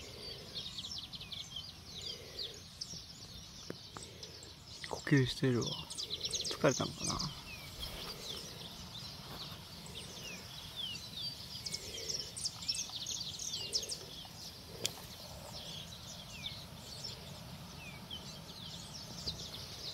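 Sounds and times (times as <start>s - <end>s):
birds chirping and twittering: 0.0s - 19.9s.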